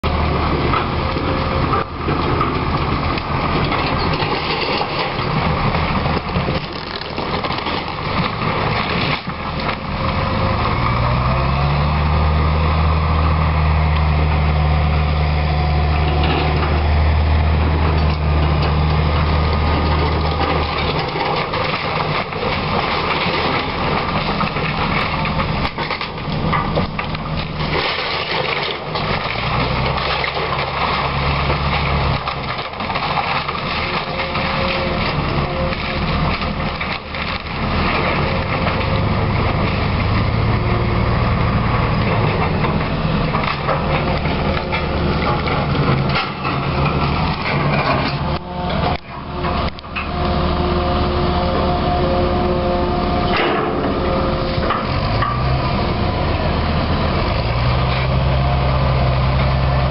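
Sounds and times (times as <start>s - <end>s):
wood crunching: 0.0s - 14.2s, 14.8s - 59.9s
excavator diesel engine revving: 0.0s - 59.9s.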